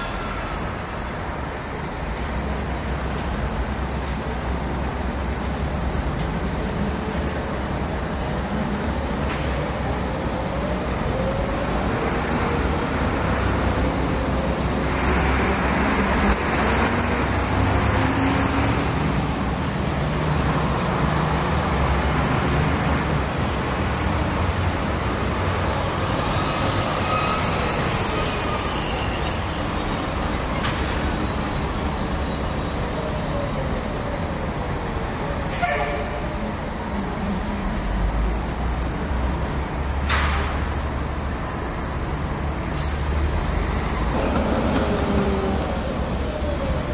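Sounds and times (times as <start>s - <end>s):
faint tram whines: 0.0s - 46.9s
traffic noise: 0.0s - 46.9s
tram wheels rumbling on rails: 0.0s - 46.9s.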